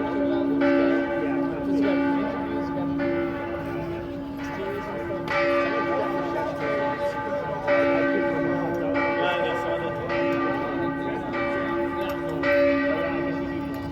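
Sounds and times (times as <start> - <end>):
church bells ringing: 0.0 - 13.9.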